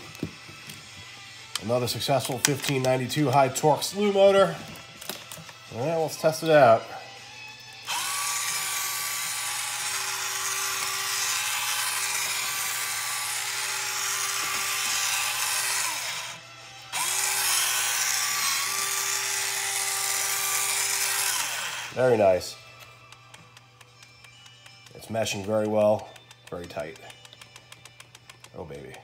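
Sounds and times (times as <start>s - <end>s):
small motor whine with gear noise: 4.6s - 28.8s.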